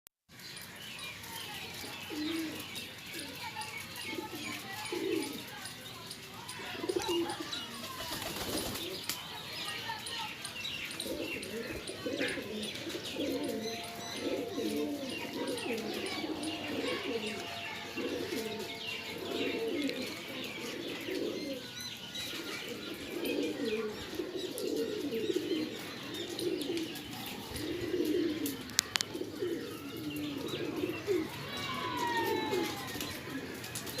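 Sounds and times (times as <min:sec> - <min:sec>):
small birds chirping: 0:00.3 - 0:34.0
pigeons cooing: 0:01.8 - 0:05.7, 0:06.6 - 0:09.2, 0:10.8 - 0:34.0.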